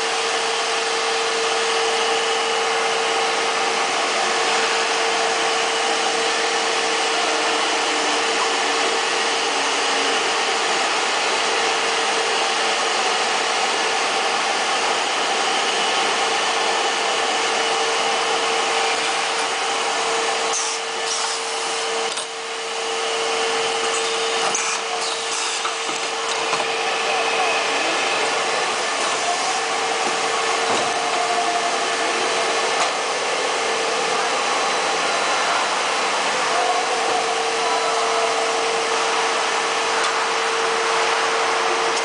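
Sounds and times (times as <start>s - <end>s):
machinery hiss and whine: 0.0s - 42.0s.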